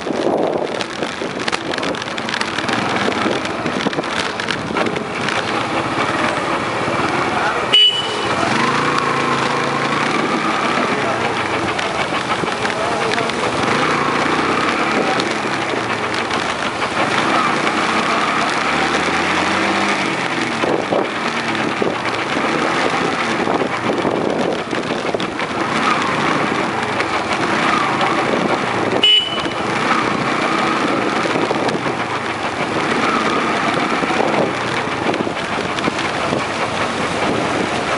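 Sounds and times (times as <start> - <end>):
motorcycle engine running: 0.0 - 37.9
wind and road noise: 0.0 - 37.9.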